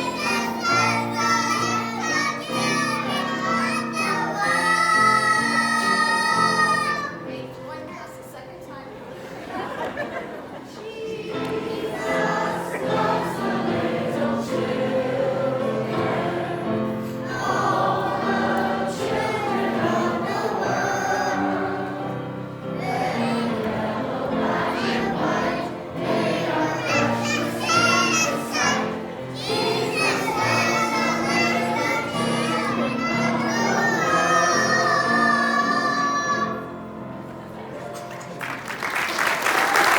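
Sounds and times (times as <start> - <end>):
choir singing: 0.0 - 7.2, 9.6 - 37.2.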